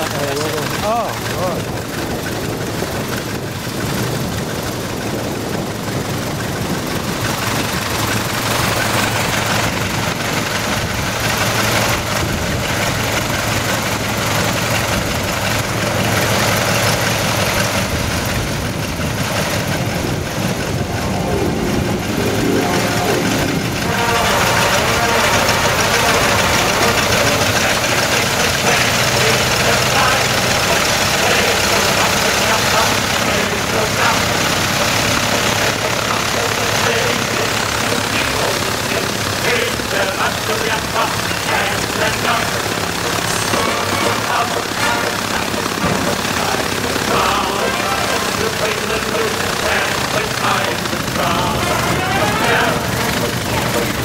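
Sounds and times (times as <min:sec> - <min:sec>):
piston engine idling: 0:00.0 - 0:54.0.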